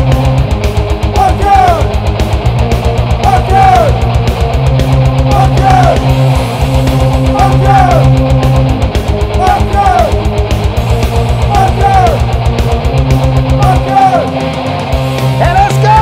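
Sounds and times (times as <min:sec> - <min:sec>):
heavy rock song: 0:00.0 - 0:16.0.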